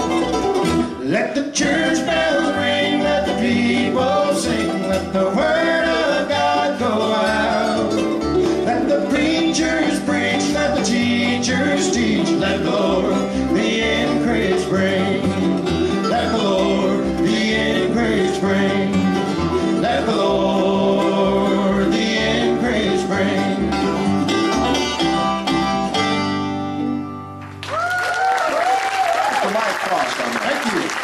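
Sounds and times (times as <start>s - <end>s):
mandolin picking: 0.0s - 27.6s
bluegrass string band: 0.0s - 31.0s.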